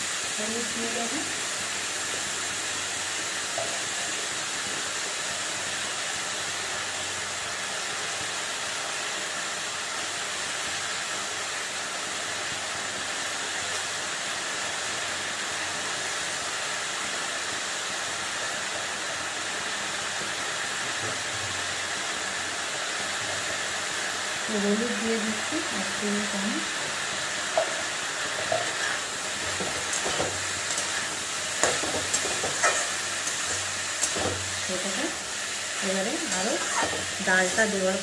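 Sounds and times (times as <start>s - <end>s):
food frying in oil: 0.0s - 38.0s.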